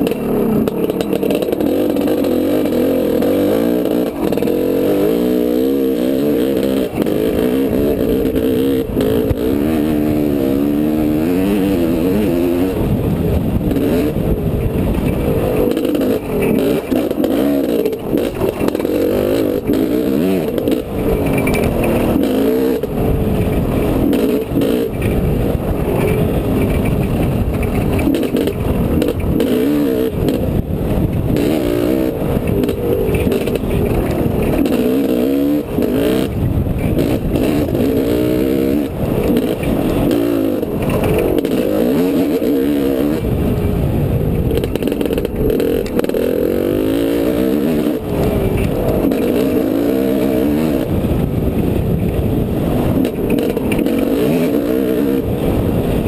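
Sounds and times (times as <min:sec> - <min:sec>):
dirt bike engine revving: 0:00.0 - 0:56.0
wind rumble on microphone: 0:00.0 - 0:56.0.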